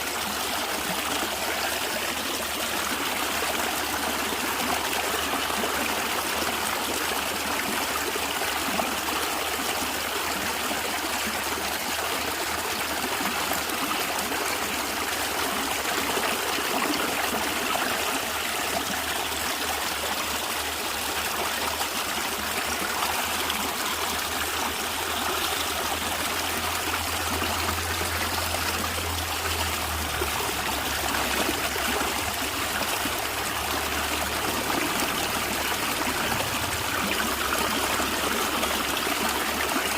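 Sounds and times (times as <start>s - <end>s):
stream gurgling and trickling: 0.0s - 39.9s.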